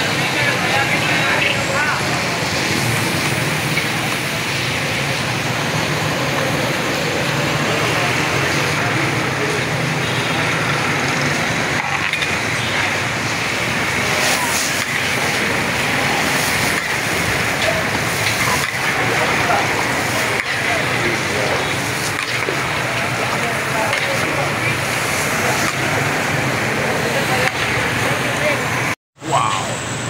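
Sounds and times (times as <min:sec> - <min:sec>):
meat sizzling and bubbling in oil: 0:00.0 - 0:28.4.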